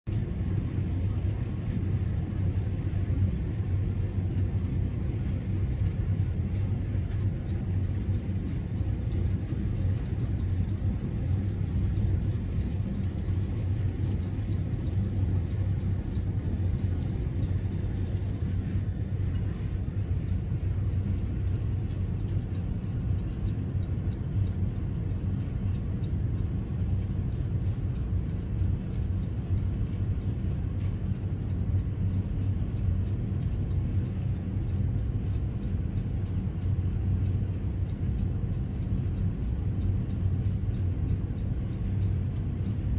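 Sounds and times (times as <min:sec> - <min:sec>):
clock ticking: 0:00.1 - 0:42.9
low rumble: 0:00.1 - 0:42.9.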